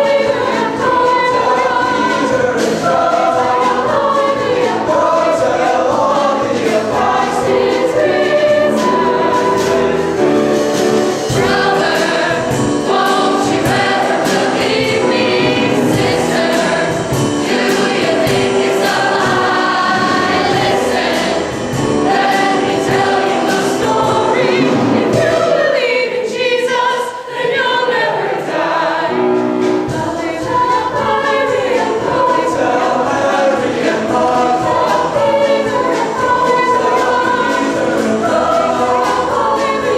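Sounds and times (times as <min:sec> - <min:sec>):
choir singing in parts: 0:00.0 - 0:39.9.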